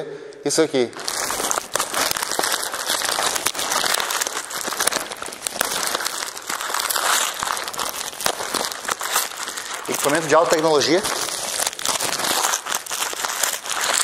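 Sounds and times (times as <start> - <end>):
paper and tape crinkling: 0.9 - 14.0.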